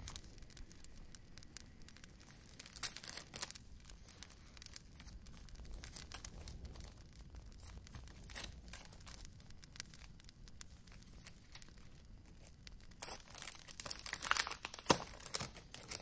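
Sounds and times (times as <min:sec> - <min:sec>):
paper crinkling and tearing: 0:02.1 - 0:16.0.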